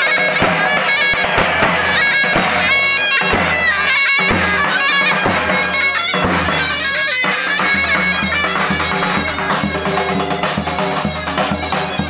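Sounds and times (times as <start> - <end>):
large drum beaten: 0.0 - 12.0
shrill double-reed melody: 0.0 - 12.0.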